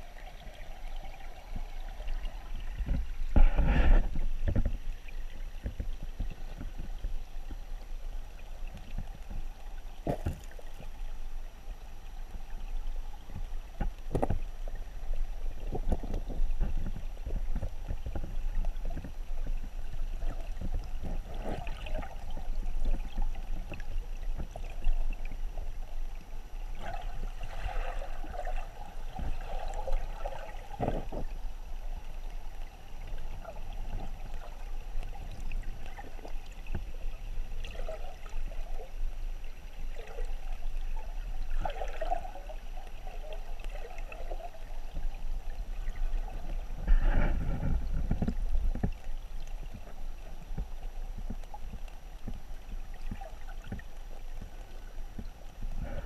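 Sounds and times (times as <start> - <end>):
underwater current rumble: 0.0 - 11.0, 12.5 - 56.0
water bubbling and gurgling: 0.0 - 56.0.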